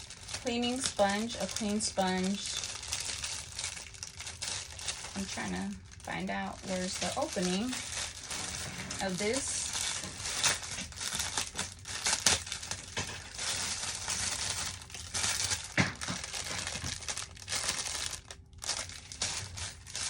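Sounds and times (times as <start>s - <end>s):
packaging crinkling: 0.0s - 20.0s.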